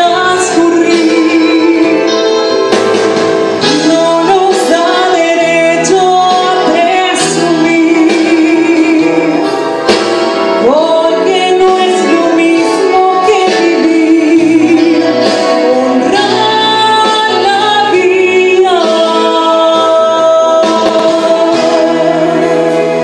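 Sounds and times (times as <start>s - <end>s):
woman singing into microphone: 0.0s - 2.7s, 3.6s - 23.0s
instrumental accompaniment: 0.0s - 23.0s.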